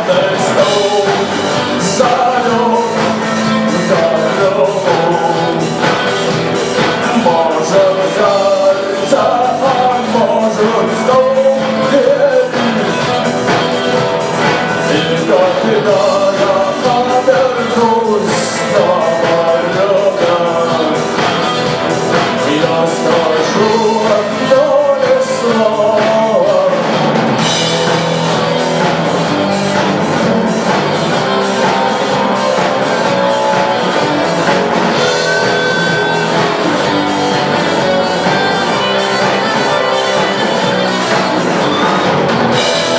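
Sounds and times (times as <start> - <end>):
rock band instrumental: 0.0 - 42.9.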